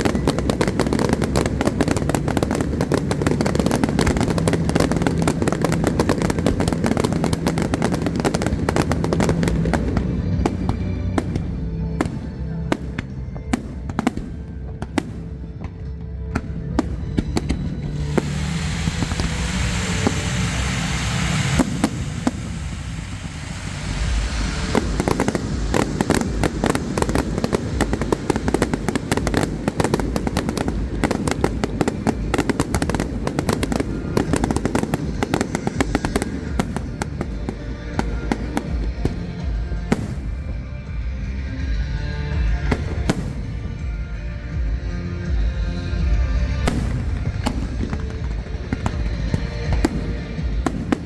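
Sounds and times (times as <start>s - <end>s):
firework hiss: 0.0s - 13.0s, 16.8s - 40.8s, 46.6s - 51.0s
firework bangs and crackling: 0.0s - 51.0s
music soundtrack: 0.0s - 51.0s.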